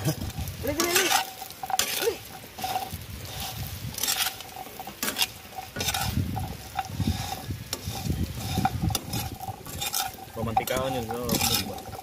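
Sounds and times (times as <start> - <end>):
light frying sizzle: 0.0 - 12.0
metal ladle scraping a pan: 0.0 - 12.0.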